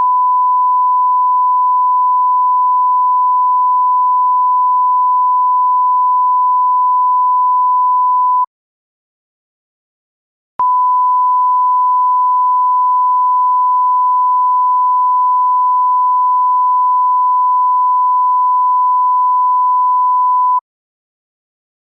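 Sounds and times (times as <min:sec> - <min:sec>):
censor bleep tone: 0:00.0 - 0:08.5, 0:10.6 - 0:20.6.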